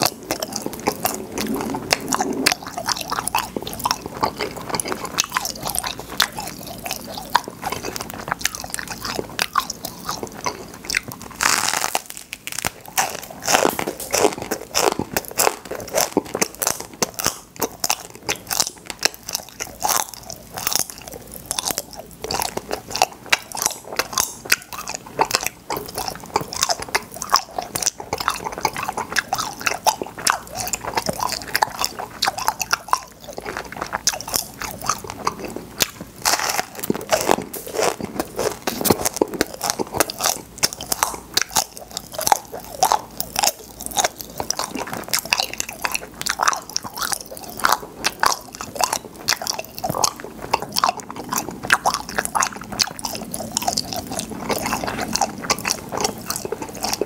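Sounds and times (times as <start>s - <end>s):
chewing and crunching candy: 0.0s - 57.0s
popping candy crackles: 0.0s - 57.0s.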